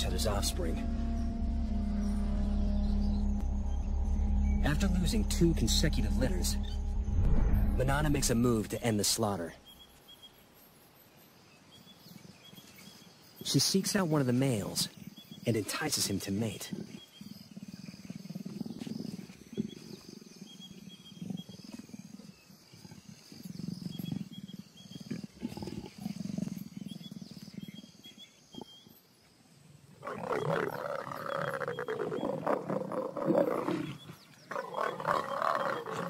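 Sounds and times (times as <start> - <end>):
leopards growling: 0.0 - 6.8, 12.7 - 29.0, 29.9 - 36.0.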